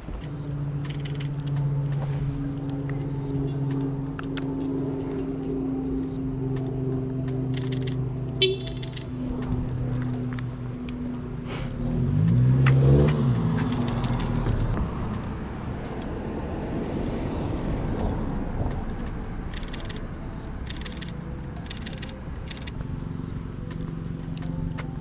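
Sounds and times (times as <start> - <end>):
car engine humming and revving: 0.0 - 25.0
outdoor noise rush: 0.0 - 25.0.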